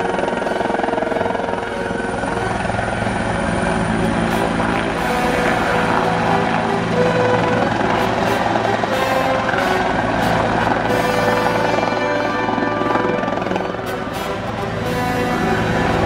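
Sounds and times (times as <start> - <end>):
helicopter rotor and turbine: 0.0 - 16.0
music playing: 0.0 - 16.0.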